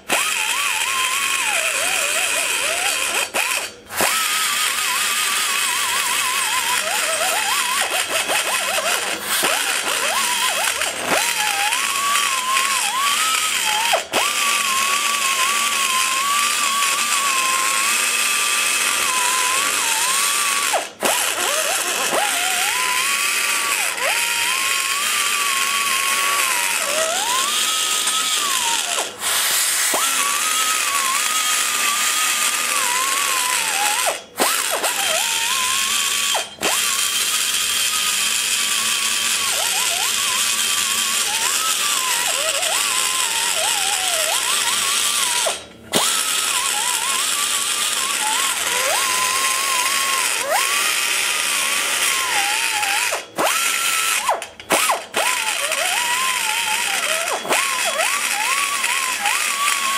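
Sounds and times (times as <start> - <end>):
die grinder cutting aluminum: 0.0 - 59.9.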